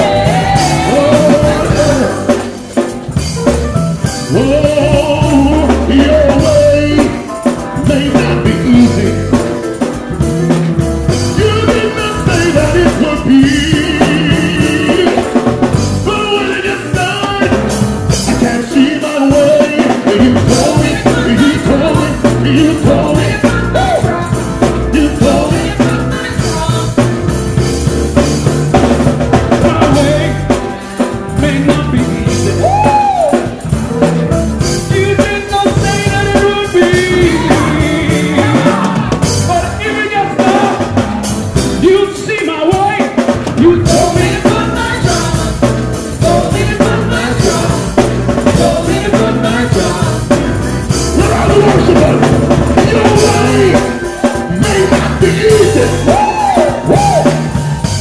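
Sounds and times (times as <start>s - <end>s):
choir singing gospel: 0.0s - 3.3s, 4.0s - 58.0s
drum kit and band: 0.0s - 58.0s.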